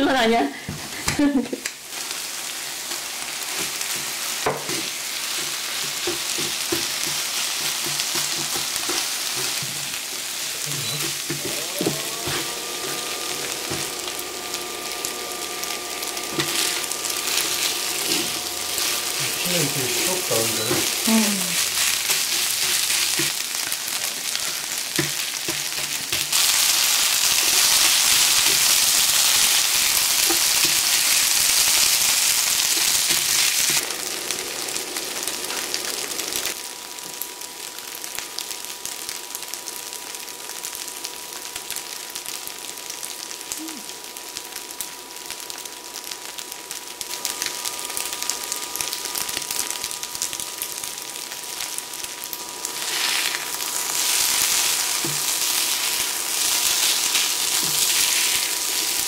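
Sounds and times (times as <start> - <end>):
food sizzling on a grill: 0.0 - 59.0.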